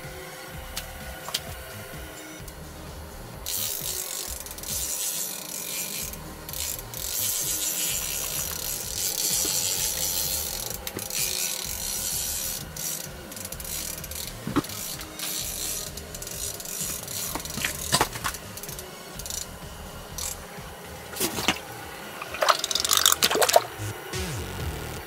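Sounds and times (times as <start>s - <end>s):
fishing reel ratcheting: 2.4s - 20.5s, 21.1s - 23.8s.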